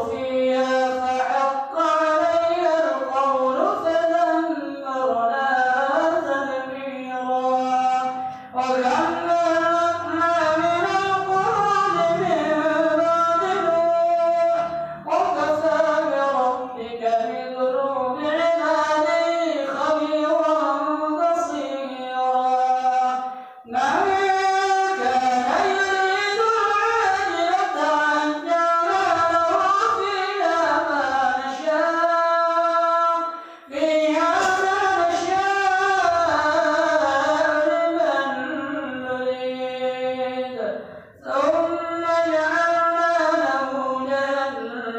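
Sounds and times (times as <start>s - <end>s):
person chanting melodic recitation: 0.0s - 44.9s.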